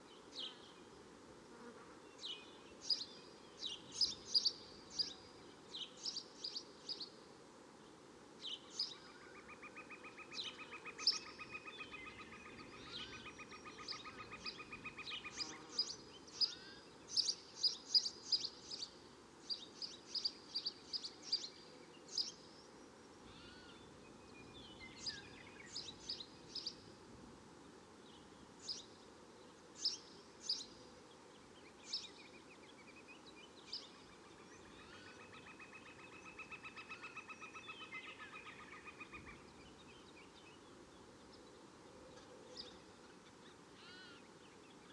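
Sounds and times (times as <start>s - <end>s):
faint steady hiss: 0.0s - 44.9s.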